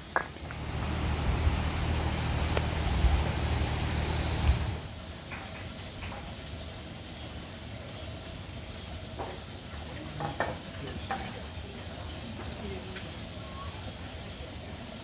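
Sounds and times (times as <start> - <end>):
low rushing rumble of hot spring: 0.0 - 15.0.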